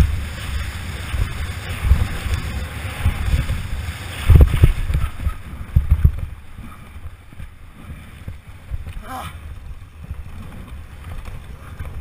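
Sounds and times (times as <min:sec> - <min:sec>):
bike tyres and suspension rumbling: 0:00.0 - 0:12.0
wind rushing over microphone: 0:00.0 - 0:12.0.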